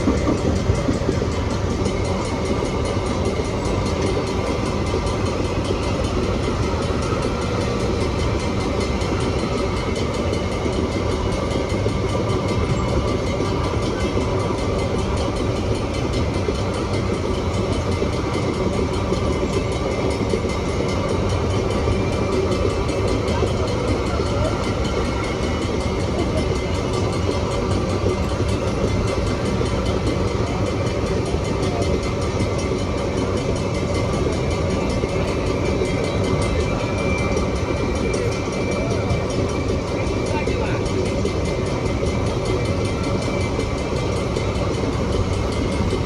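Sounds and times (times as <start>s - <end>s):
freight train wheels rattling: 0.0s - 46.0s.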